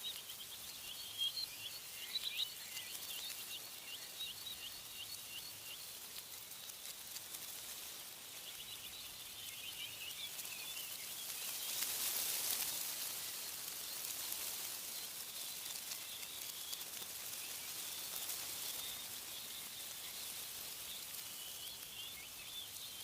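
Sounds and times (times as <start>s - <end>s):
songbirds chirping: 0.0s - 23.0s
wind in tree leaves: 0.0s - 23.0s.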